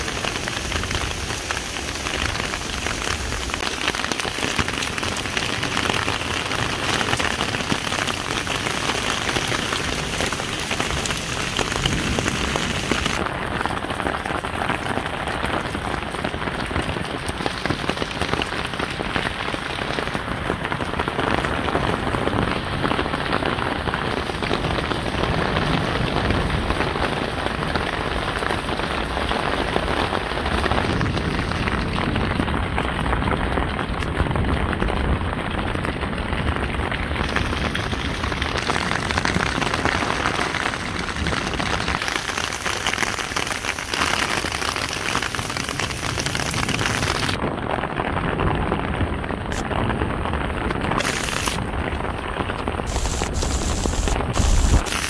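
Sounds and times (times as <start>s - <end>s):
heavy rain on stone pavement: 0.0s - 55.0s.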